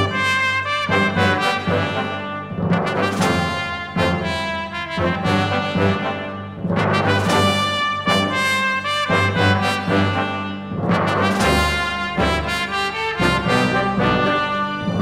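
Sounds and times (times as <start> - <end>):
brass background music: 0.0 - 15.0.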